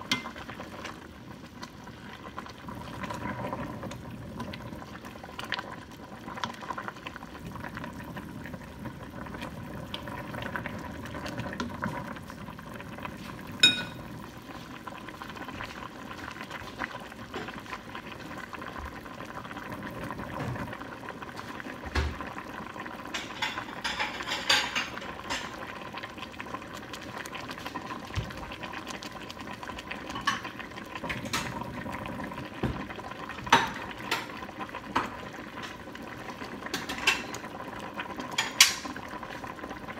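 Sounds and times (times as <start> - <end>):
soup bubbling in a pot: 0.0 - 39.9.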